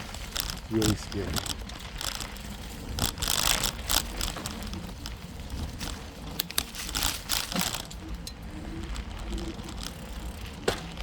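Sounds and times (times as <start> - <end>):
bicycle tyres crunching on dirt: 0.0 - 11.0.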